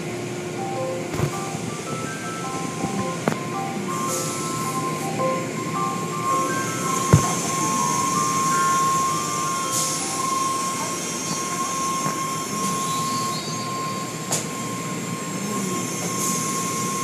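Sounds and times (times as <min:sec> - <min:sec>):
constant high whine: 0:00.0 - 0:17.0.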